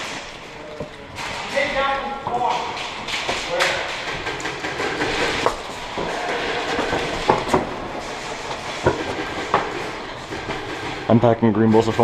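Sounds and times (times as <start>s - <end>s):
gear clacking and knocking: 0.0s - 12.0s.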